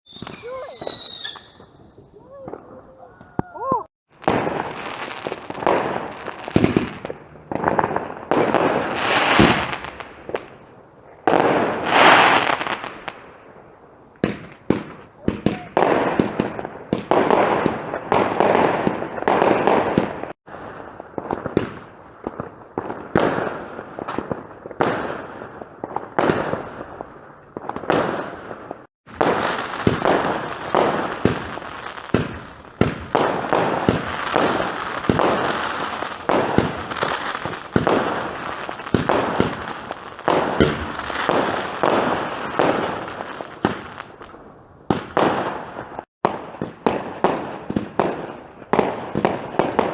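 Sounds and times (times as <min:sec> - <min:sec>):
fireworks bangs and crackles: 0:00.1 - 0:49.9.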